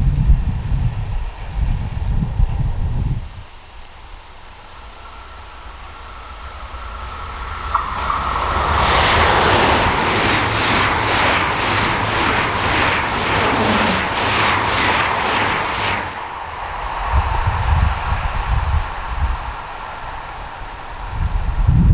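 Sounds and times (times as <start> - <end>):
train passing at speed: 0.0 - 21.9.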